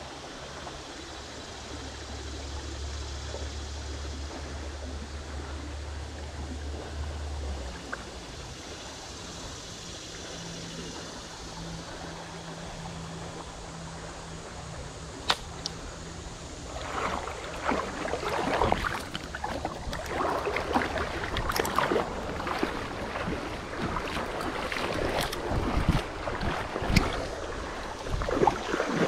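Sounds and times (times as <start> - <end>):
creek flowing: 0.0 - 29.0.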